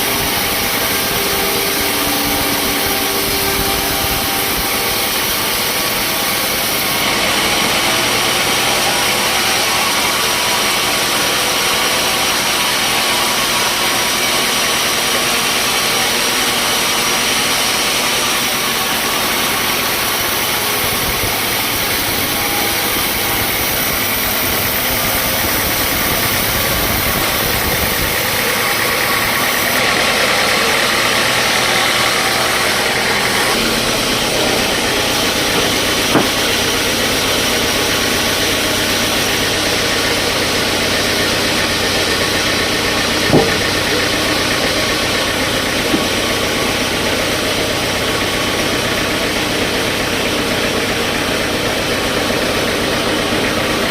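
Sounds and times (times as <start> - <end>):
motor-driven saw running: 0.0 - 53.9.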